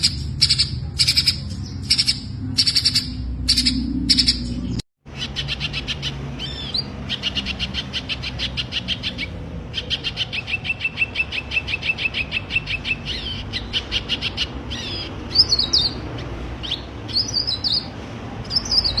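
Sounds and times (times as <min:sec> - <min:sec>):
bird trilling high chirps: 0:00.0 - 0:19.0.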